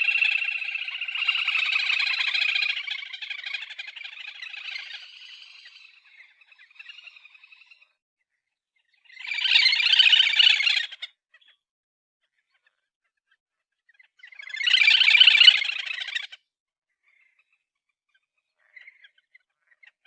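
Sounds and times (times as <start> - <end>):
soft bird calls: 0.0 - 20.0.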